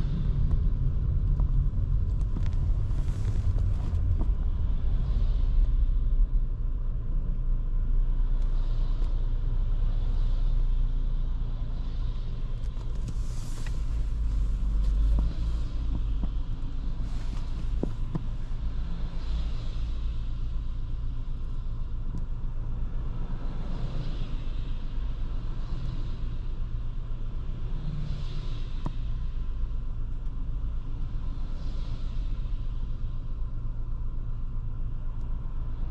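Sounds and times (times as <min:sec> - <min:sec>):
car engine and road noise: 0:00.0 - 0:35.9.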